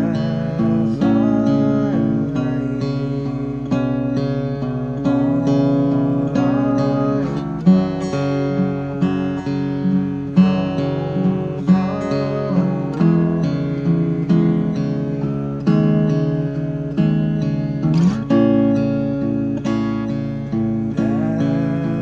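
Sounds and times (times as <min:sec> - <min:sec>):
guitar plucked notes and chords: 0:00.0 - 0:22.0.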